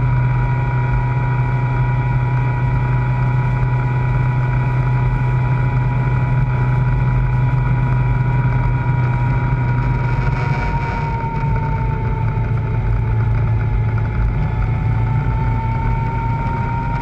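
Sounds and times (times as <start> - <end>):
motorcycle engine drone: 0.0 - 17.0
thin steady whine: 0.0 - 17.0.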